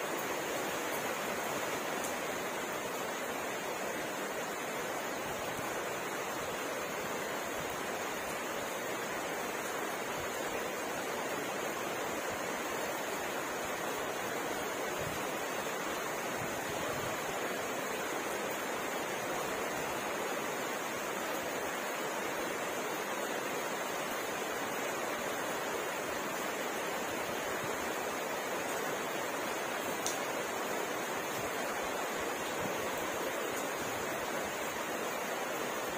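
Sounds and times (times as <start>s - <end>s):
rain falling steadily: 0.0s - 35.9s.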